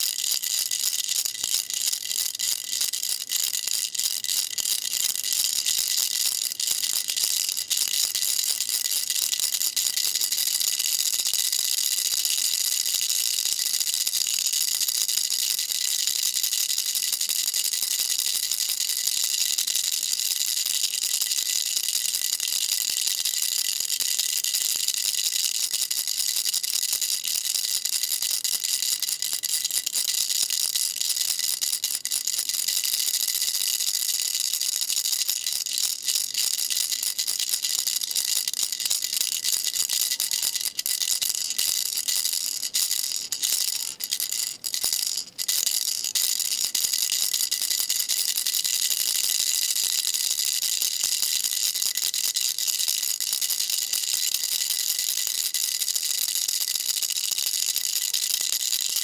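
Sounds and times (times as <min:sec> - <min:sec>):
baby rattle shaken: 0:00.0 - 0:59.0.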